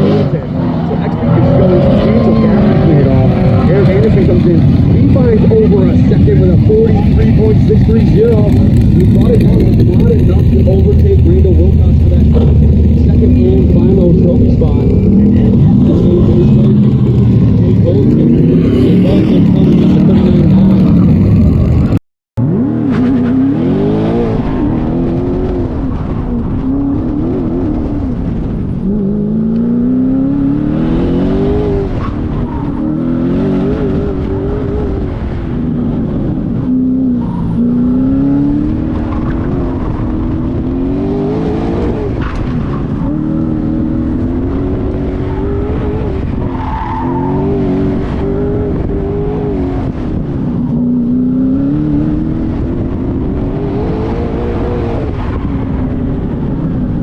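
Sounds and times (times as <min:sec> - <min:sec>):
engine accelerating and lifting: 0:00.0 - 0:57.0.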